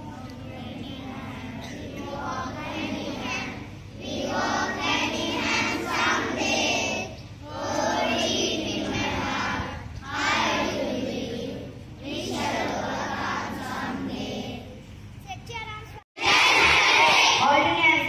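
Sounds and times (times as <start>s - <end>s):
children singing into microphone: 0.0s - 14.9s, 16.2s - 17.5s.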